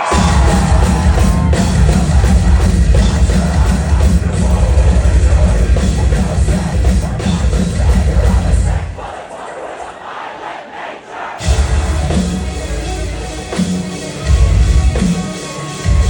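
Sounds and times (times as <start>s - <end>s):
bass guitar: 0.0s - 8.9s, 11.4s - 16.0s
heavy distorted guitars: 0.0s - 10.0s, 11.4s - 16.0s
pounding drums: 0.0s - 16.0s.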